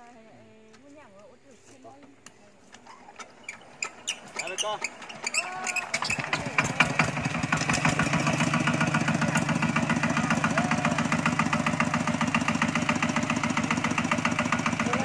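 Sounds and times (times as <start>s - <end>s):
diesel engine starting and chugging: 2.9s - 15.0s.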